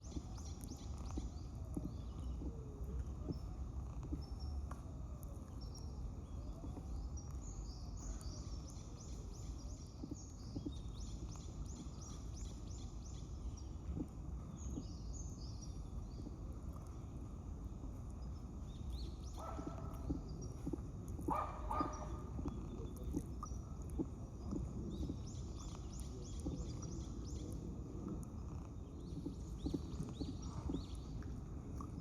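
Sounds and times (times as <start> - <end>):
low background rumble: 0.0 - 32.0
small birds chirping: 0.0 - 32.0.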